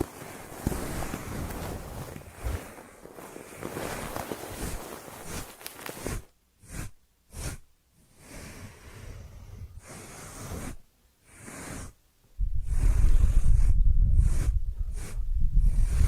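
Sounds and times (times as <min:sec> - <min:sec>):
soft breathy swishing: 0:00.0 - 0:16.0.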